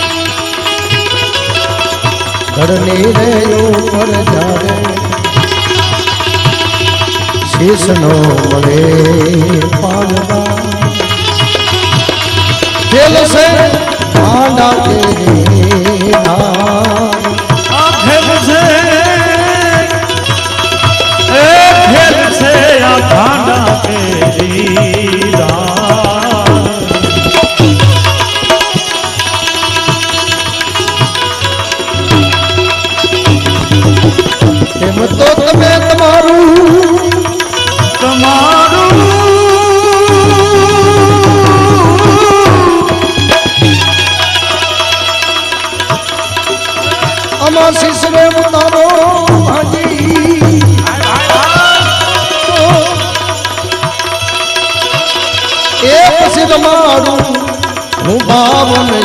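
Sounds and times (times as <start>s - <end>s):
sustained instrumental notes: 0.0s - 59.0s
tabla drumming: 0.0s - 59.0s.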